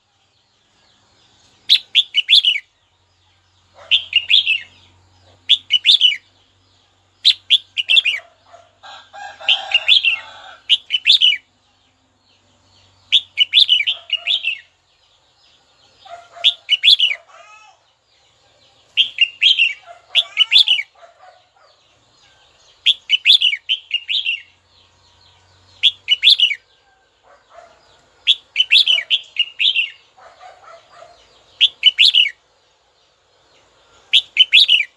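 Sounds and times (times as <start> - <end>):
bird singing warbled phrases: 0.0 - 34.9.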